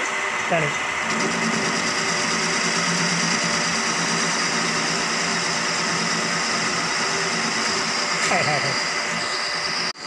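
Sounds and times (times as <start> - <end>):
lathe humming and whining: 0.0 - 10.0.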